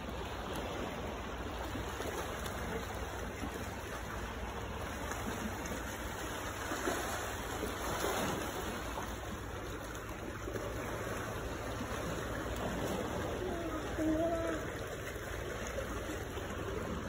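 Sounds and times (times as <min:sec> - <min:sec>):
sea water washing among boulders: 0:00.0 - 0:17.0.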